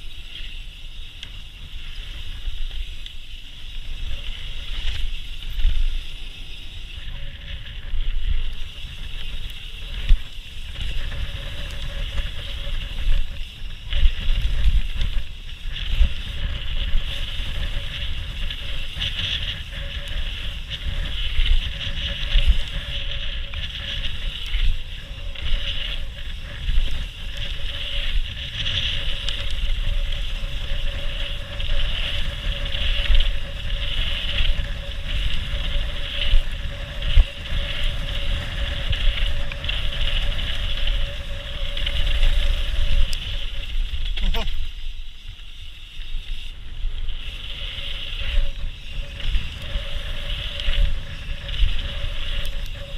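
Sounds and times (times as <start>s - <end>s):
bike tyre rumble on dirt: 0.0s - 52.9s
wind on microphone: 0.0s - 52.9s.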